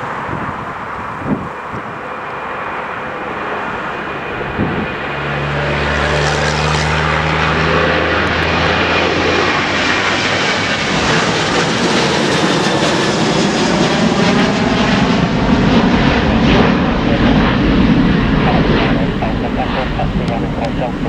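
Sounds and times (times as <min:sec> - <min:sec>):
airliner engines rushing: 0:00.0 - 0:21.0.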